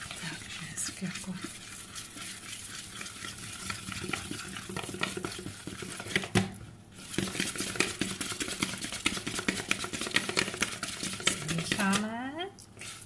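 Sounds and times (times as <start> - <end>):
utensil stirring batter in bowl: 0.0 - 13.0.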